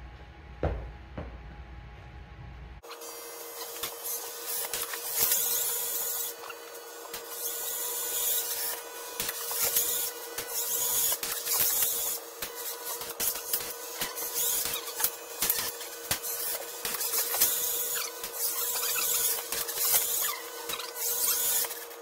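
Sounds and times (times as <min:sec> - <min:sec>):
high-pitched motor whine: 0:02.8 - 0:22.0.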